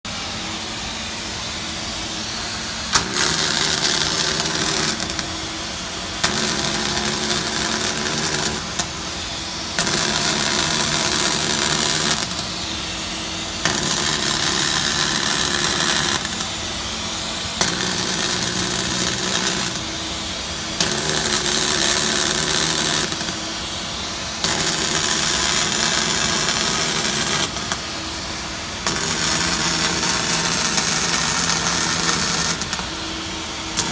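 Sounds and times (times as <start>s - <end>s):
machine hum: 0.1s - 33.9s
welding arc hissing: 0.1s - 33.9s.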